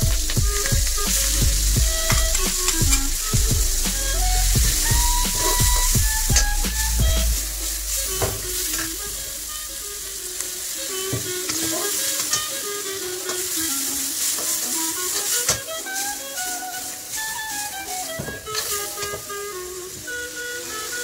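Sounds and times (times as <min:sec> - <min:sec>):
background music: 0:00.0 - 0:21.0
food sizzling in wok: 0:00.0 - 0:21.0.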